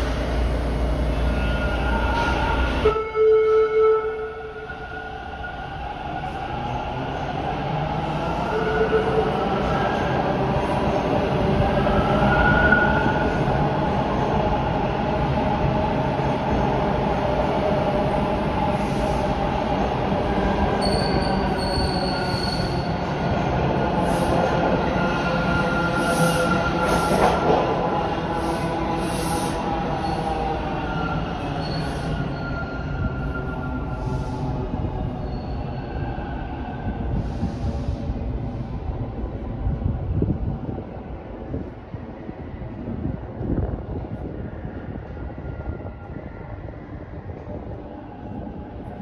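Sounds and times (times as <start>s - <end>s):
subway train rumble: 0.0s - 49.0s.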